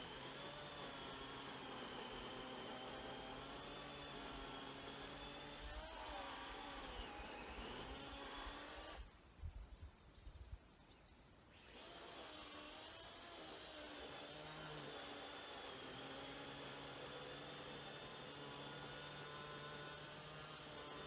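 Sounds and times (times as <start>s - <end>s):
electric chainsaw motor whine: 0.0s - 9.1s, 11.5s - 21.0s.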